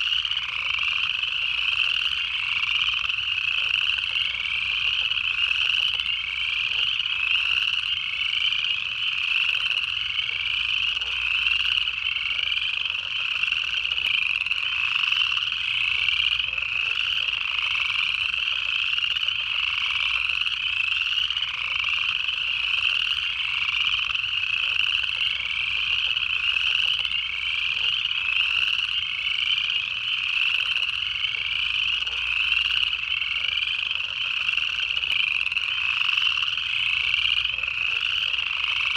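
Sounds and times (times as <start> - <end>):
chorus frogs trilling: 0.0 - 38.9.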